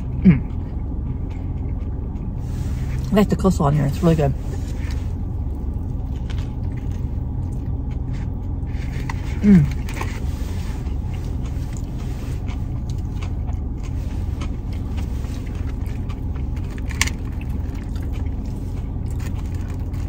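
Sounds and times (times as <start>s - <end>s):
person chewing: 0.0s - 3.2s, 4.0s - 20.0s
car cabin low rumble: 0.0s - 20.0s.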